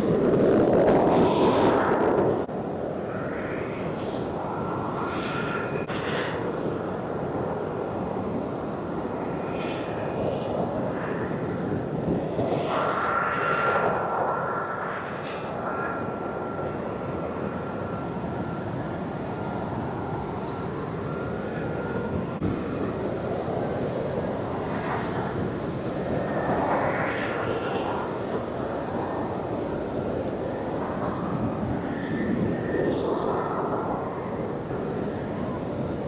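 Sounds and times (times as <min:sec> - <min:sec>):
airplane flying overhead: 0:00.0 - 0:36.0.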